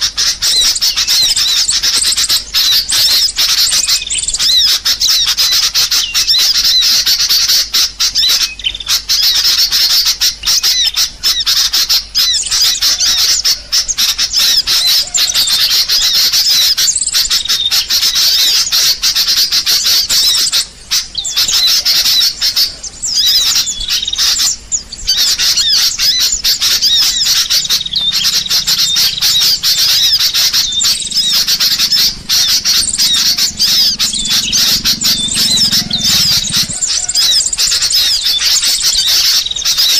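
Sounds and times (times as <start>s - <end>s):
flock of birds squawking: 0.0s - 39.9s.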